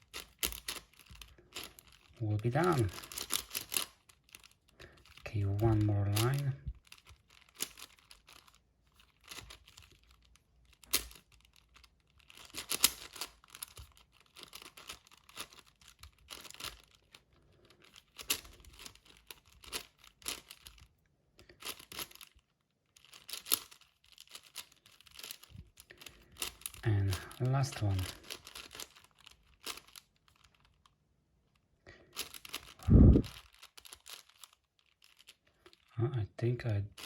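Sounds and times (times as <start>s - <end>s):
puzzle cube clicking turns: 0.0s - 30.9s, 32.0s - 35.9s.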